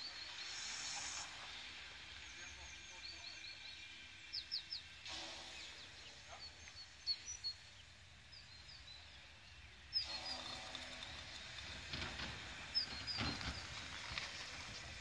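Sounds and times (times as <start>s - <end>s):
birds chirping: 2.1s - 15.0s.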